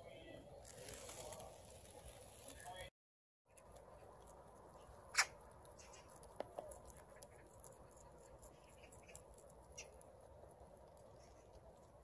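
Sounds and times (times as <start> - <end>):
rabbits chewing leaves: 0.1 - 2.9, 3.5 - 12.0.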